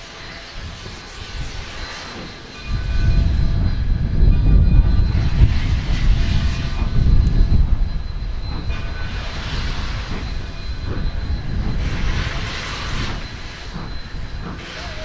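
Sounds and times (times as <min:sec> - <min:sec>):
steam locomotive pulling out: 0:00.0 - 0:15.0.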